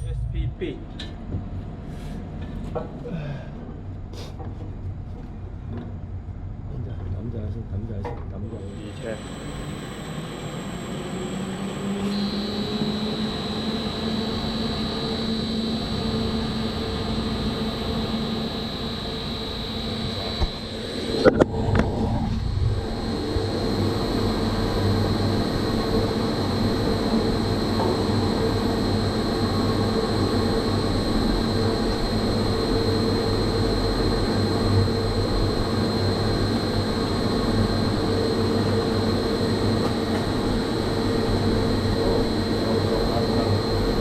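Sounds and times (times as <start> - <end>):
electric motor fan humming: 8.5 - 44.0.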